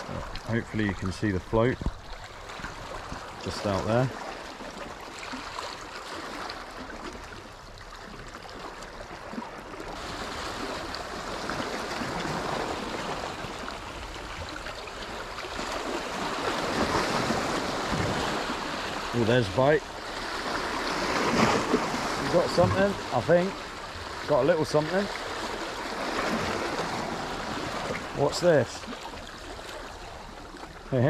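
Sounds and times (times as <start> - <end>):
small waves splashing on rocks: 0.0 - 31.0.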